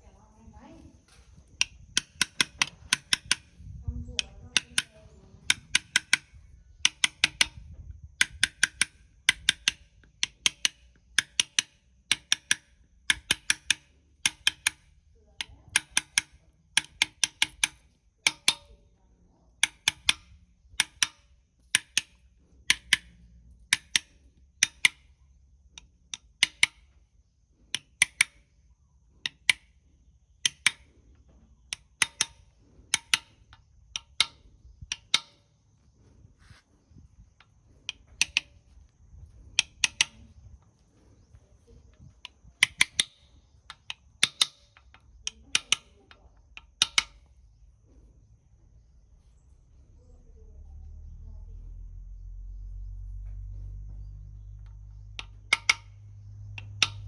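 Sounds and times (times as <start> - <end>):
hand tools tapping on metal: 0.1 - 18.8, 19.6 - 25.2, 25.8 - 27.0, 27.7 - 28.5, 29.2 - 29.8, 30.4 - 35.5, 36.4 - 47.3, 53.2 - 57.0.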